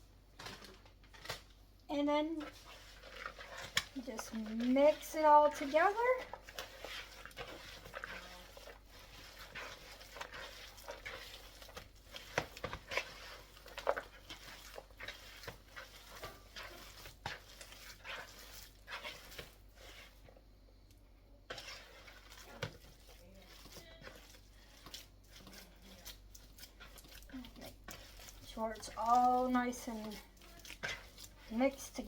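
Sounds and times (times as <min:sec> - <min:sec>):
meat mixture squishing by hand: 0:00.0 - 0:32.0.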